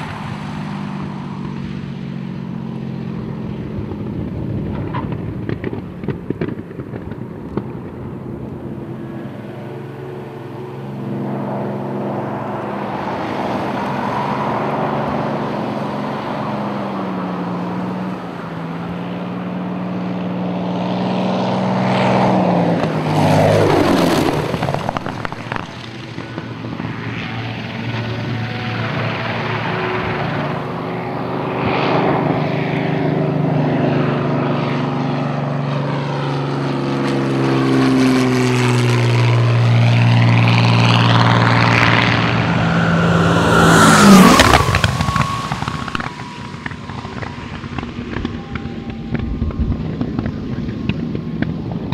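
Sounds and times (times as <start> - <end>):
plane passing by: 0.0 - 51.9
propeller plane engine drone: 0.0 - 51.9.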